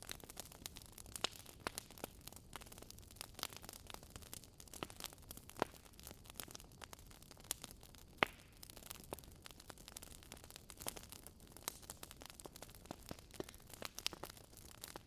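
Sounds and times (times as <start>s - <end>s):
burning logs crackling: 0.0s - 15.0s.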